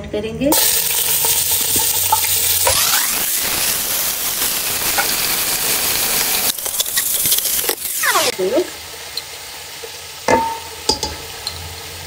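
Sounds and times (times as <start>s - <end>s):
chicken sizzling in hot oil: 0.5s - 12.0s.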